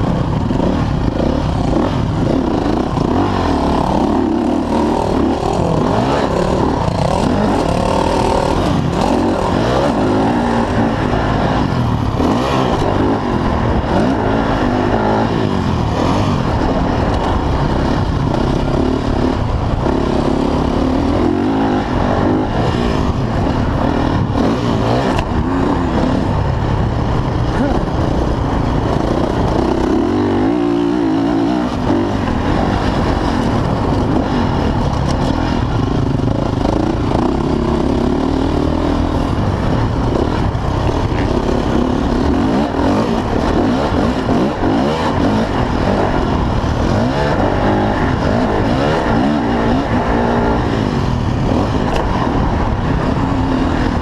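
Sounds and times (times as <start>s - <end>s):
dirt bike engine revving: 0.0s - 54.0s
wind rushing over microphone: 0.0s - 54.0s.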